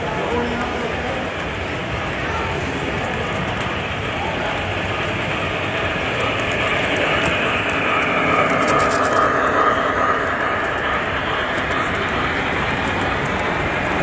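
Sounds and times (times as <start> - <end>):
model train wheels rolling on rails: 0.0 - 14.0.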